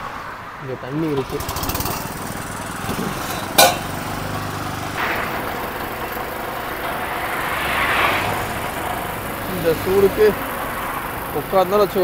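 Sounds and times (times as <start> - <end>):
engine idling: 1.0 - 12.0.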